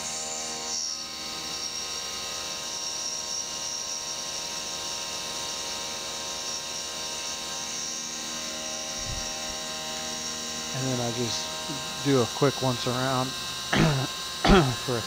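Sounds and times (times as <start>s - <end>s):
milling machine cutting metal: 0.1s - 15.0s.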